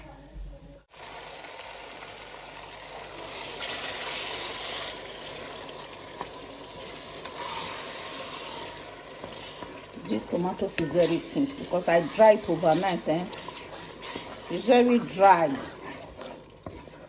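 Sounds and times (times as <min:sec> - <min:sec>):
onions sizzling in hot oil: 0:00.9 - 0:17.0
wooden spoon stirring: 0:03.0 - 0:17.0.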